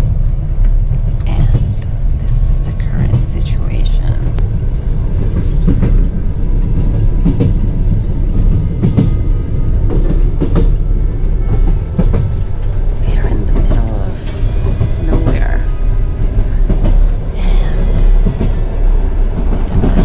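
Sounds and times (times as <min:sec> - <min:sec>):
rail joints clacking: 0:00.0 - 0:20.0
train wheels rumbling on rails: 0:00.0 - 0:20.0.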